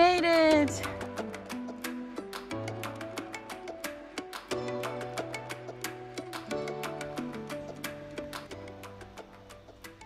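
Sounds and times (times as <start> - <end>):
upbeat guitar music with beat: 0.0 - 10.0.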